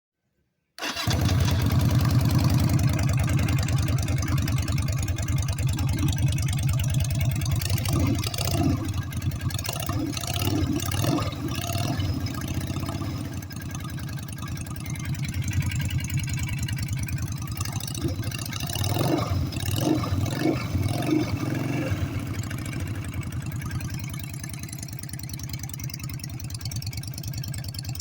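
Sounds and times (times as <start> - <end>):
motorcycle engine idling: 0.9 - 28.0.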